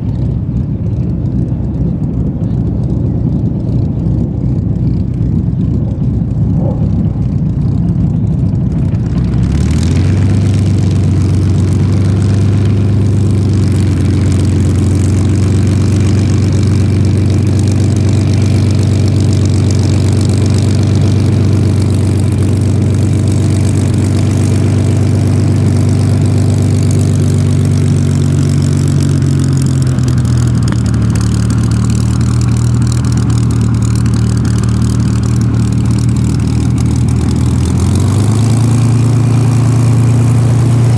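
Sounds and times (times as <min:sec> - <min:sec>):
aircraft piston engine droning: 0:00.0 - 0:40.9.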